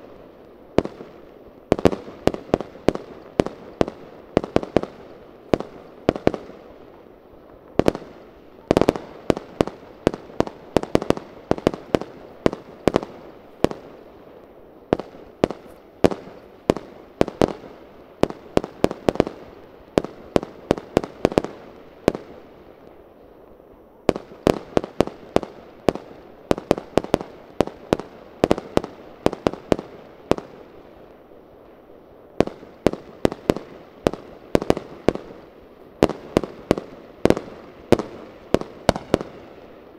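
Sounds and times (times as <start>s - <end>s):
fireworks bangs: 0.0s - 14.2s, 14.9s - 22.5s, 24.0s - 30.8s, 31.6s - 39.9s.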